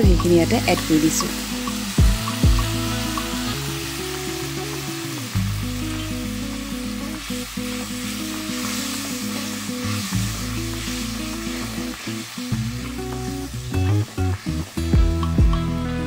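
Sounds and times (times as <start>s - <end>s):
background music: 0.0s - 16.0s
curry sizzling in oil: 0.0s - 16.0s.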